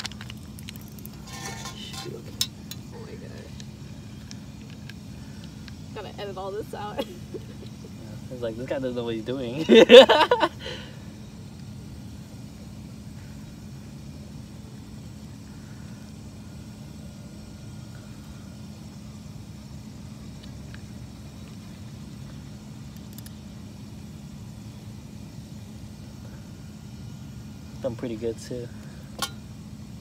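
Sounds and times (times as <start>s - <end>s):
distant machinery droning: 0.0s - 30.0s
faint constant tone: 0.0s - 30.0s.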